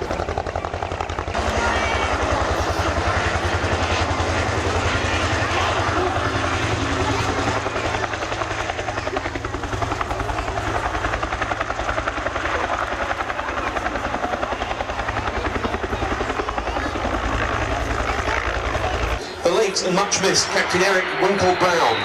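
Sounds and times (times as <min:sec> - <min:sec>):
turbine noise: 0:00.0 - 0:22.0.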